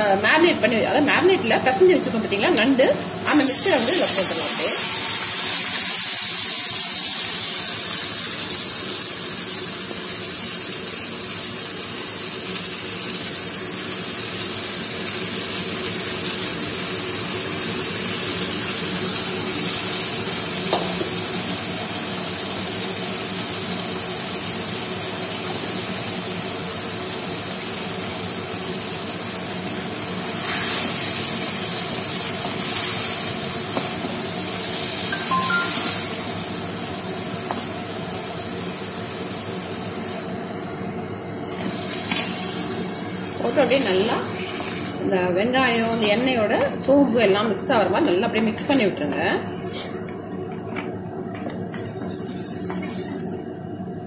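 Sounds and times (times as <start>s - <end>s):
crab frying in hot oil: 0.1s - 46.4s, 48.5s - 54.0s.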